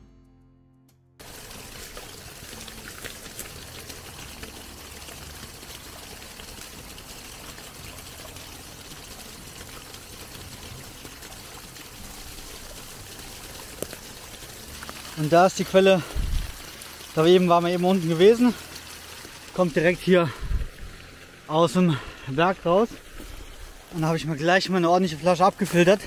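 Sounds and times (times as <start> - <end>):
water pouring from pipe onto rocks: 1.2 - 26.0.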